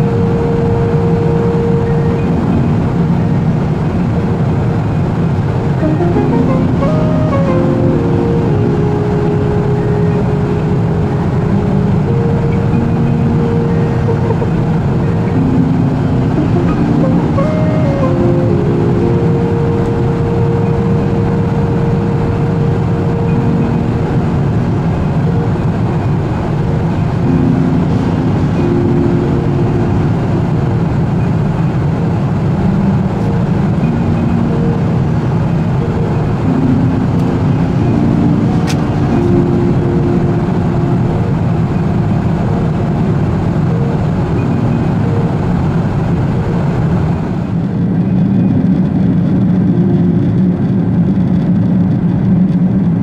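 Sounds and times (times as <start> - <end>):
airplane cabin roar: 0.0 - 53.0.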